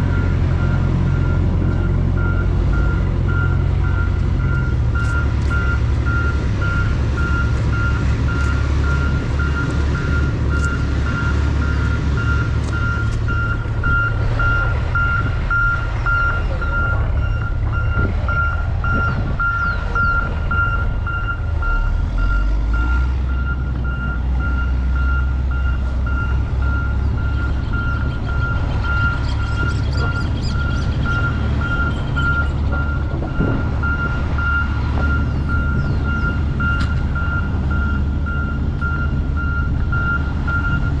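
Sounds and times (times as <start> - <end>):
low rumble: 0.0 - 41.0.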